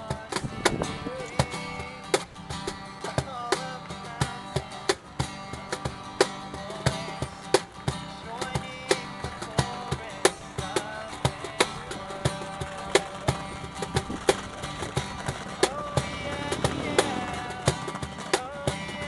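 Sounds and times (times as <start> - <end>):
acoustic guitar strummed: 0.0 - 19.0
cajon slaps: 0.1 - 19.0.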